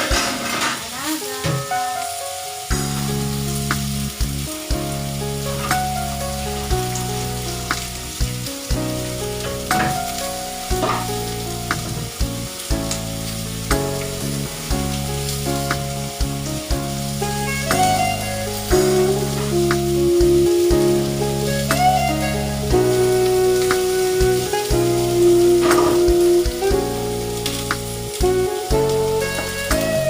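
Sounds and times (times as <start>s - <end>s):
food sizzling in a pot: 0.0s - 30.0s
background music with held chords: 1.6s - 30.0s.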